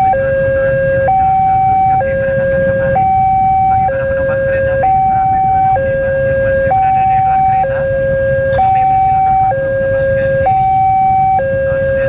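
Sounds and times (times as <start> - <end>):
level crossing two-tone alarm: 0.0 - 12.0
motorcycle engines idling: 0.0 - 12.0.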